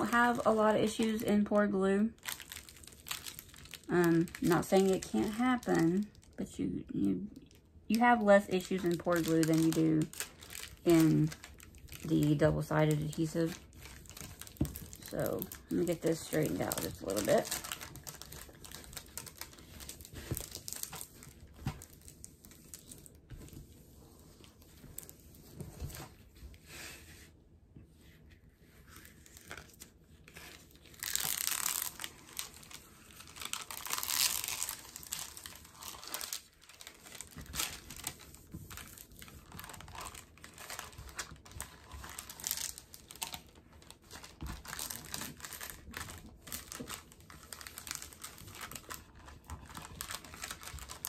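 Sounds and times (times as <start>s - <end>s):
plastic sleeve crinkling: 0.0s - 26.4s, 28.7s - 51.0s.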